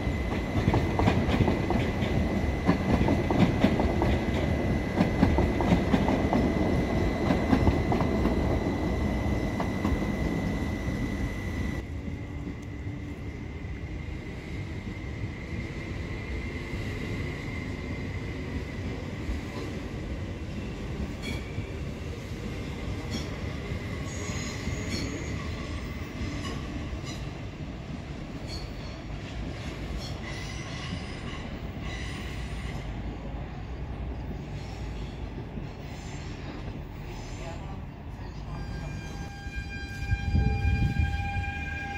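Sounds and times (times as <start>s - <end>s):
rail vehicle rumbling on track: 0.0s - 41.9s.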